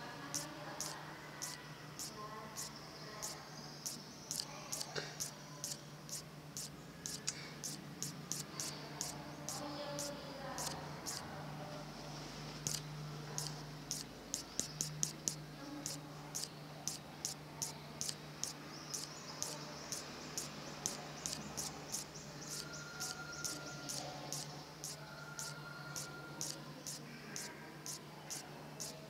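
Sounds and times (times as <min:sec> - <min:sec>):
steady low hum: 0:00.0 - 0:29.0
insect chirping: 0:00.2 - 0:11.2, 0:12.6 - 0:29.0.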